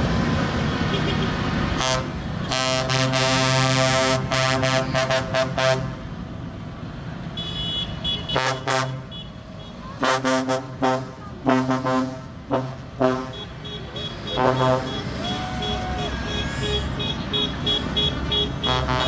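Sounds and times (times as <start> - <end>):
vehicle horns tooting: 0.9 - 6.0, 7.3 - 19.0.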